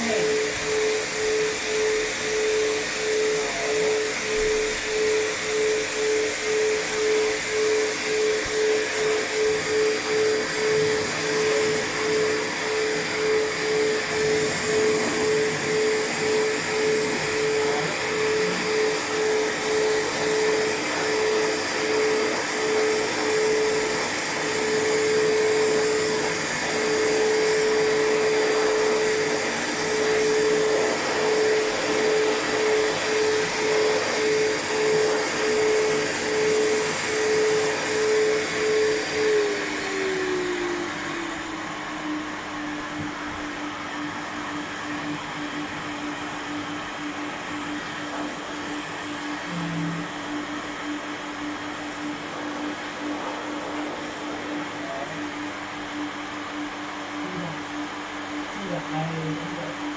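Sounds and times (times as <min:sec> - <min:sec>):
pet hair dryer blowing: 0:00.0 - 0:59.9.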